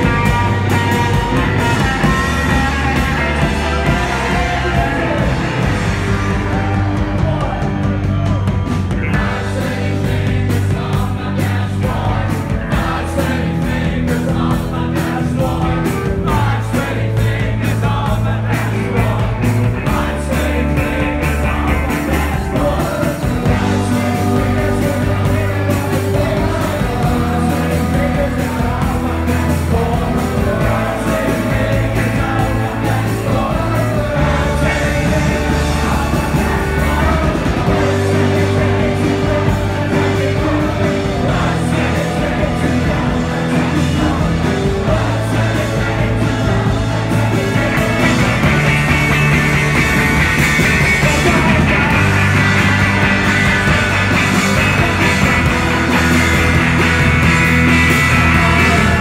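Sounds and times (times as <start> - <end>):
bass line: 0.0 - 59.0
live rock band playing: 0.0 - 59.0
person singing: 0.0 - 59.0.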